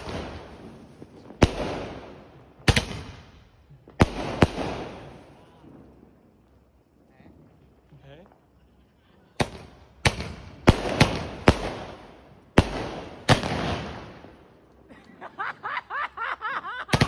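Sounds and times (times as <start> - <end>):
firework bangs with crackling tails: 0.0 - 8.6, 9.3 - 16.1, 16.8 - 17.0
firework crackling and rumbling: 0.0 - 17.0.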